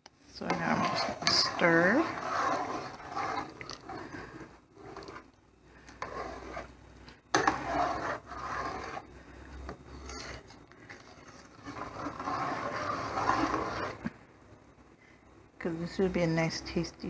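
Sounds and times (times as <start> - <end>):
spoon scraping a pot: 0.4 - 14.1.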